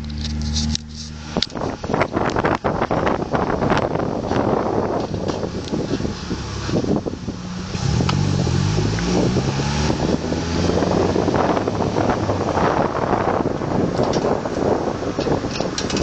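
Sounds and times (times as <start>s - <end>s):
low engine hum: 0.0s - 16.0s
wind buffeting microphone: 0.0s - 16.0s.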